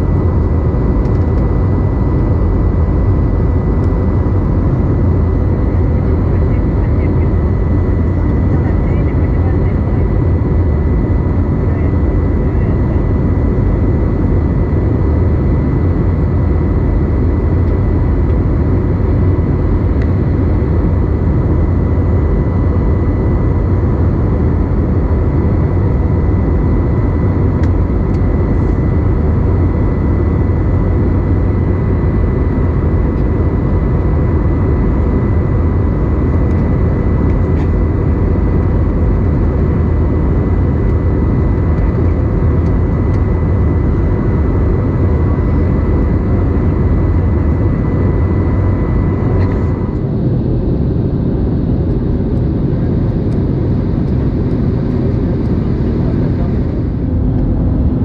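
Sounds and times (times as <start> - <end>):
engine and airflow roar: 0.0 - 58.0.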